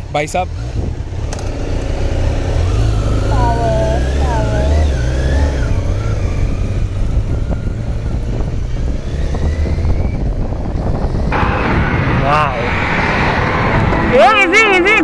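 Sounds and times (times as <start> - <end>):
motorcycle engine revving: 0.0 - 14.8
rising engine whine: 1.3 - 15.0.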